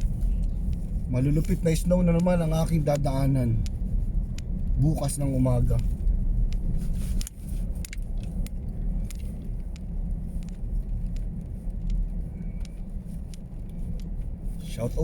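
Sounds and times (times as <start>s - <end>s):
car engine and road noise: 0.0s - 15.0s
light clicks and rattles: 0.0s - 15.0s.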